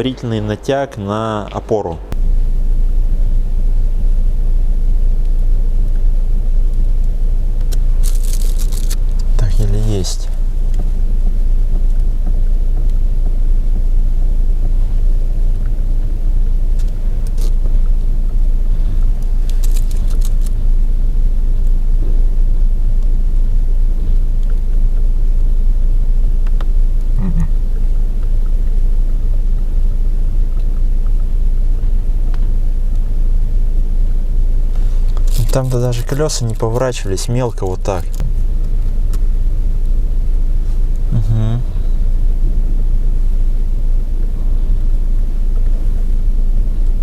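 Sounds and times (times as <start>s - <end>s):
car engine low rumble: 0.0s - 47.0s.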